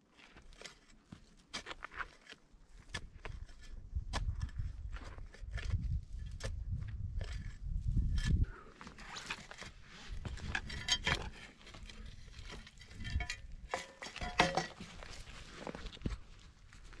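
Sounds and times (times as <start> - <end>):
shovel scraping rocky soil: 0.1 - 17.0.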